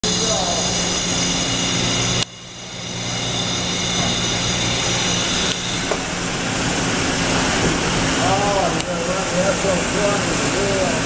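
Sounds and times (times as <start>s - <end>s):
machine humming and whining: 0.0s - 11.0s.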